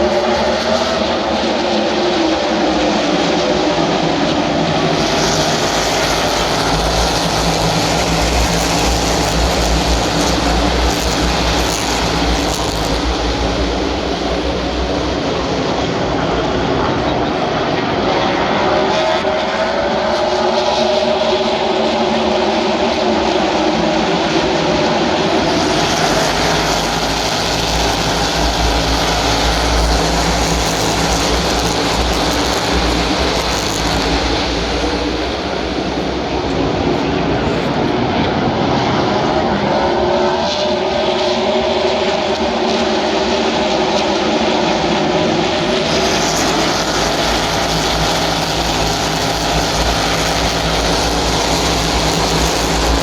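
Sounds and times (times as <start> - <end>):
race car engines roaring: 0.0 - 53.0.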